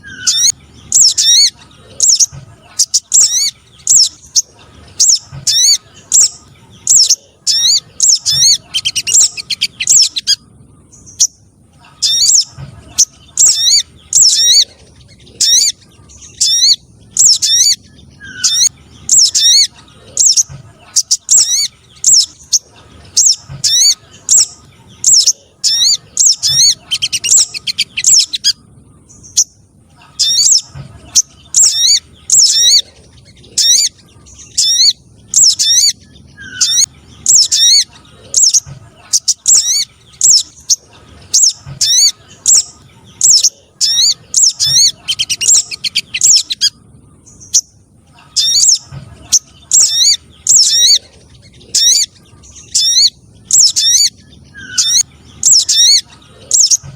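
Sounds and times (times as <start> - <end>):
high chipping bird calls: 0.0 - 56.9
small birds calling: 0.0 - 56.9.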